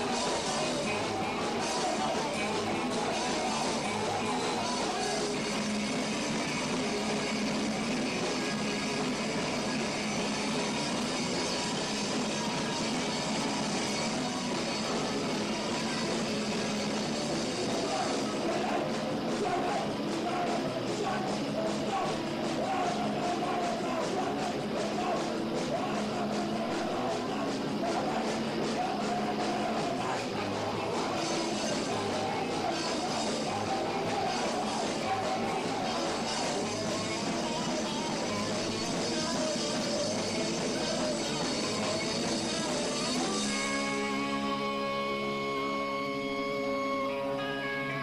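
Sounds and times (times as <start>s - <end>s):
punk rock band playing live: 0.0s - 48.0s.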